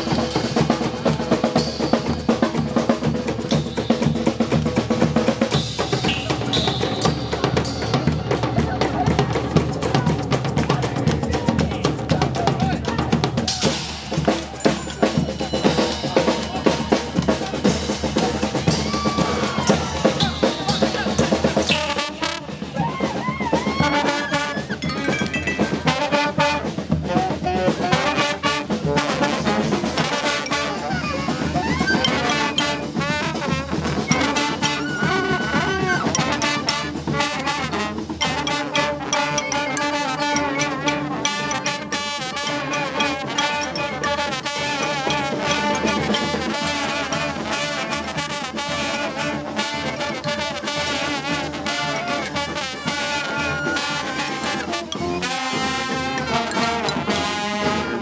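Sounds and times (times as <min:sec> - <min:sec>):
trumpets and trombones: 0:00.0 - 0:09.2, 0:12.7 - 0:58.0
drum kit beat: 0:00.0 - 0:58.0.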